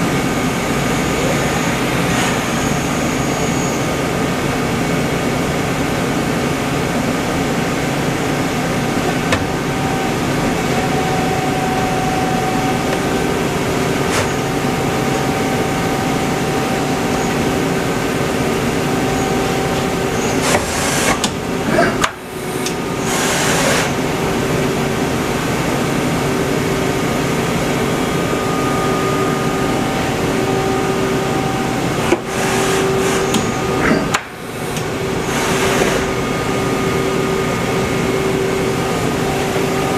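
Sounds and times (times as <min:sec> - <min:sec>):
machine hum with whining tones: 0:00.0 - 0:39.9.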